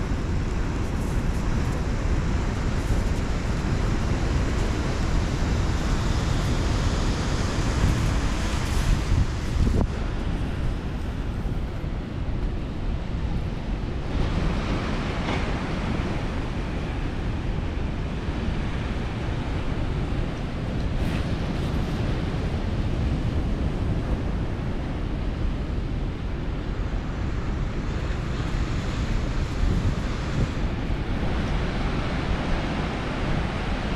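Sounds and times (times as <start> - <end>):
surf breaking on a beach: 0.0 - 33.9
wind buffeting the microphone: 0.0 - 33.9.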